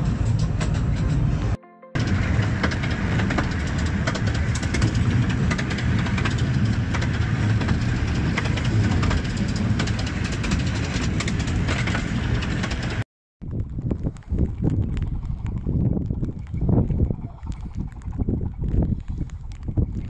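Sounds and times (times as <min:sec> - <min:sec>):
train rumbling: 0:00.0 - 0:17.5
wheels clicking and rattling: 0:00.0 - 0:20.0.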